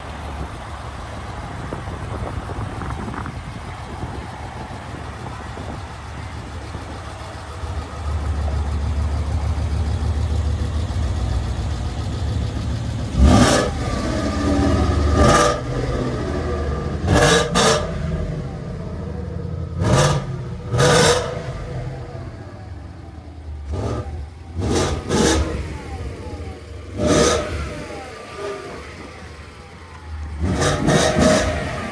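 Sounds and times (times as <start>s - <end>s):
car engine idling: 0.0s - 31.9s
engine revving in throttle blips: 0.0s - 31.9s.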